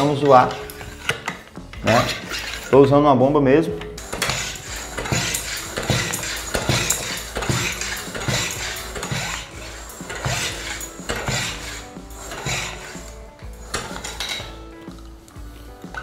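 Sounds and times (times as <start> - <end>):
hand air pump clattering: 0.0 - 3.0, 3.8 - 16.0.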